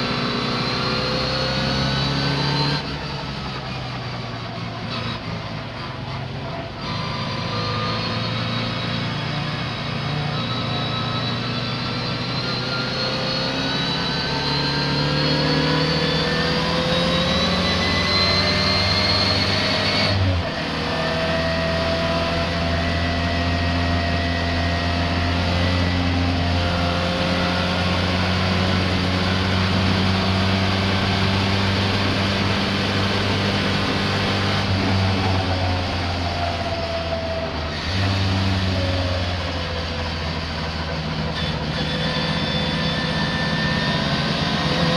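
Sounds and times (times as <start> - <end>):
racing car engine at speed: 0.0 - 44.9.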